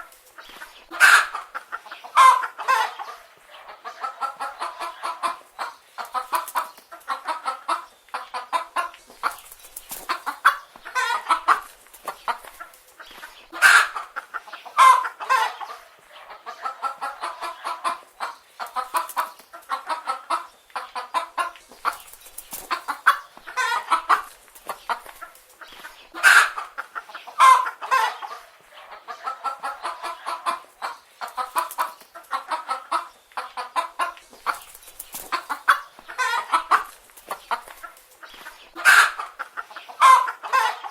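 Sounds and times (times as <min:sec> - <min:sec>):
hens clucking: 0:00.0 - 0:40.9.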